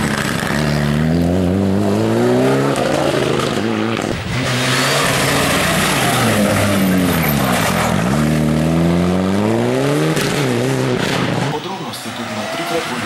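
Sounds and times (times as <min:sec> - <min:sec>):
rally car engine revving: 0:00.0 - 0:13.0
tyre and road noise: 0:00.0 - 0:13.0.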